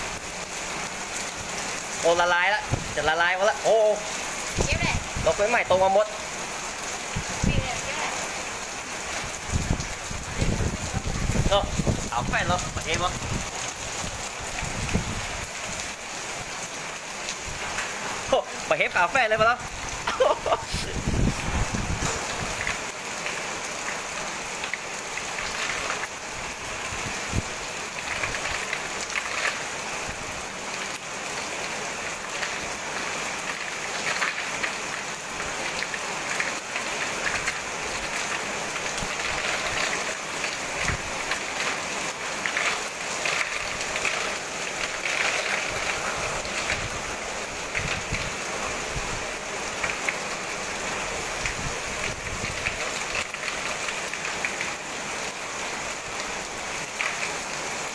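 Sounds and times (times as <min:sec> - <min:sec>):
hailstones striking: 0:00.0 - 0:57.9
heavy rain pelting: 0:00.0 - 0:57.9.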